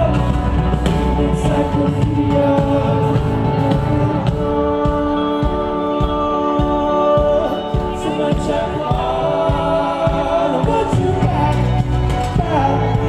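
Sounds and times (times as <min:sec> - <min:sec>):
bass guitar: 0:00.0 - 0:13.0
drum beat: 0:00.0 - 0:13.0
live rock band: 0:00.0 - 0:13.0
vocal harmonies: 0:00.0 - 0:13.0.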